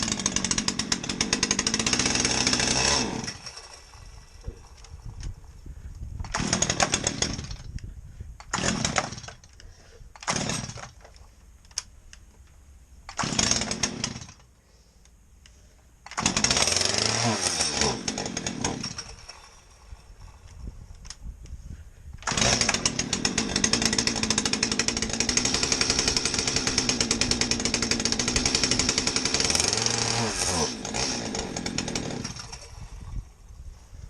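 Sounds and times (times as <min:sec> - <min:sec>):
chainsaw being pull-started: 0:00.0 - 0:05.3, 0:06.2 - 0:07.8, 0:08.4 - 0:11.9, 0:13.1 - 0:14.5, 0:16.1 - 0:21.2, 0:22.2 - 0:32.8.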